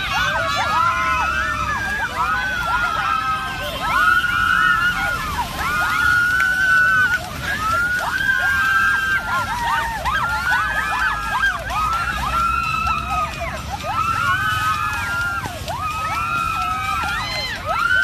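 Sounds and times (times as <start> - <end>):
crowd cheering and shrieking: 0.0 - 18.0.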